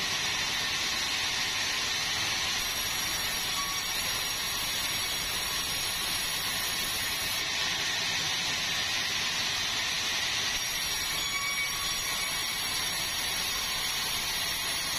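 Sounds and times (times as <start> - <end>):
sawmill machinery hissing: 0.0 - 14.9.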